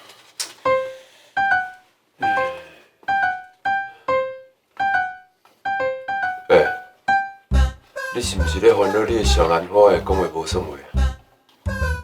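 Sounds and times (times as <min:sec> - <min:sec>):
piano music: 0:00.7 - 0:10.9.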